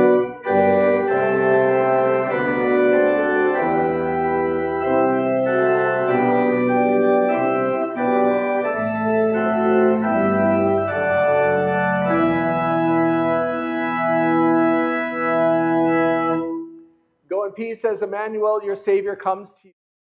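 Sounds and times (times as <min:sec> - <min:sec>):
church organ playing chords: 0:00.0 - 0:16.9.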